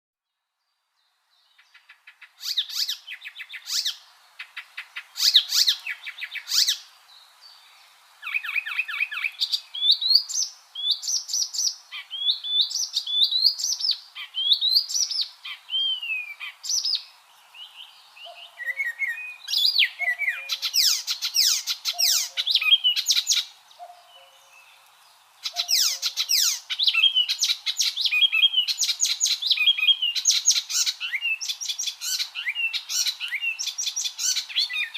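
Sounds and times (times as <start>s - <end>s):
warbler singing: 1.4s - 34.9s.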